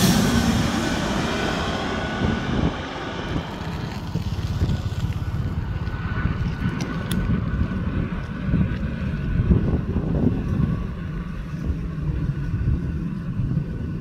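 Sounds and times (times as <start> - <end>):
jet airliner engine: 0.0 - 14.0
wind buffeting microphone: 0.0 - 14.0.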